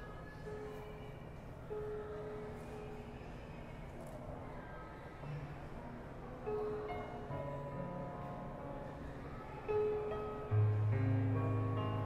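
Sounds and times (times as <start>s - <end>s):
soft slow digital piano: 0.0s - 3.7s, 5.1s - 12.0s.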